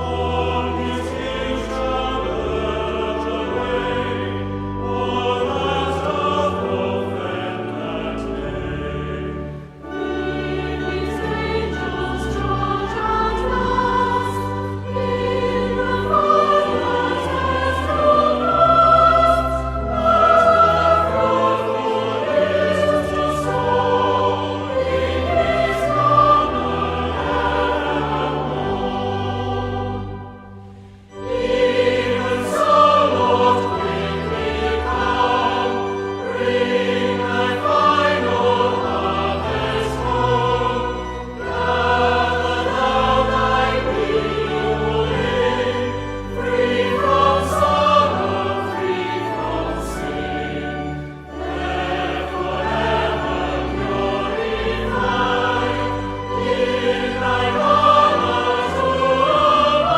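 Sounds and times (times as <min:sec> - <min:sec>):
choir singing a hymn: 0:00.0 - 0:59.9
instrumental accompaniment: 0:00.0 - 0:59.9.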